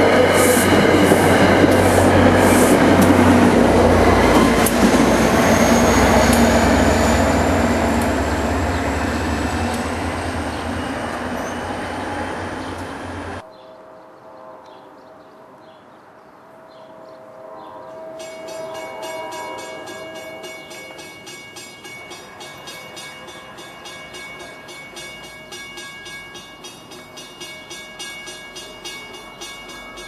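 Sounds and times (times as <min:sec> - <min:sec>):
train coaches rolling on rails: 0:00.0 - 0:13.4, 0:18.0 - 0:30.0.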